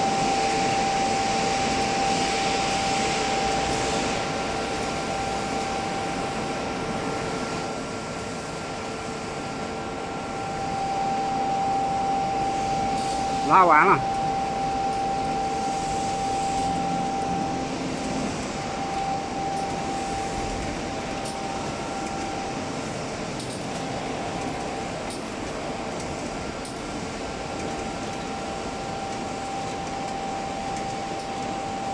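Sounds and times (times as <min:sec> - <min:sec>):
high machine whine: 0:00.0 - 0:31.9.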